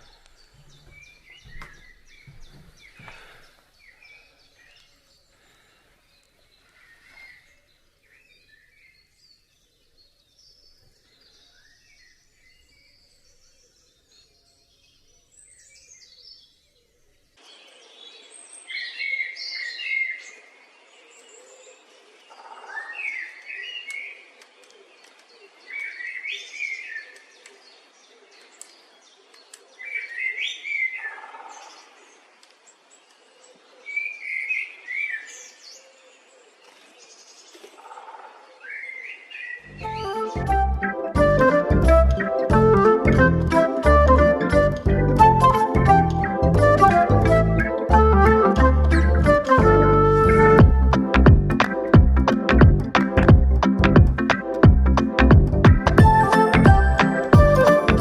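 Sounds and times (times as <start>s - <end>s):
birds singing: 0.0s - 58.0s.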